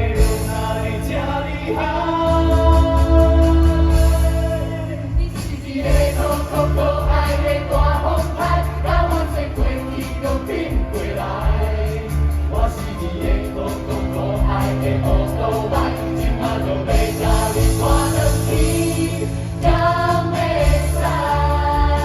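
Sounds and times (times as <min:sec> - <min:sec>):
group singing over a band: 0:00.0 - 0:22.0.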